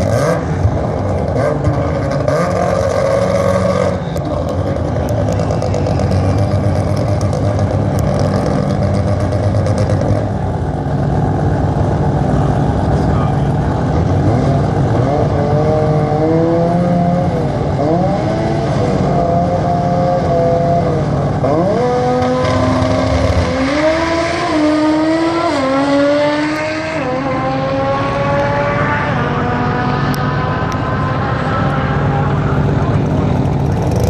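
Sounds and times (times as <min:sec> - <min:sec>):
drag racing engines revving: 0:00.0 - 0:34.0.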